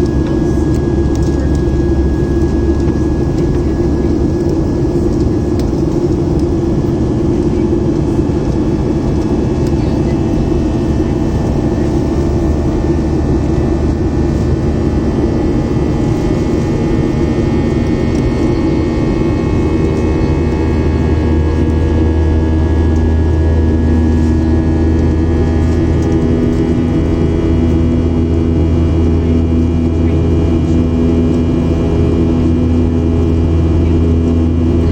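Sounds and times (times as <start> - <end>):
jet engine cabin drone: 0.0 - 34.9
low hum: 0.0 - 34.9
steady engine tones: 0.0 - 34.9.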